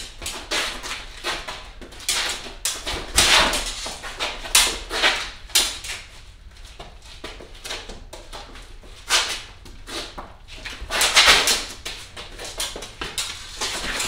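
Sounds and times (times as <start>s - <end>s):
quick footsteps on concrete: 0.0s - 14.0s.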